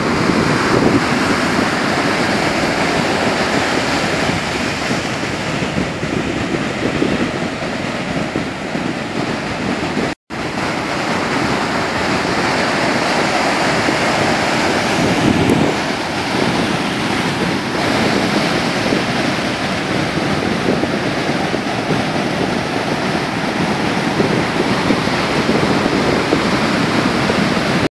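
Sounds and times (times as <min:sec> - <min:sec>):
ocean waves breaking: 0:00.0 - 0:27.9.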